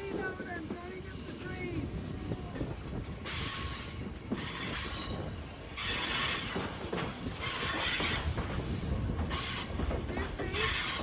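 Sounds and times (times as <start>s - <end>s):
rushes of hiss: 0.0s - 11.0s
train wheels rumbling on rail: 0.0s - 11.0s.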